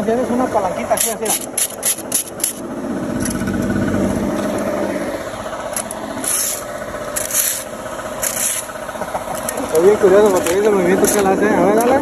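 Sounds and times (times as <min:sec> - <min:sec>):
rake scraping over asphalt: 0:00.6 - 0:12.0.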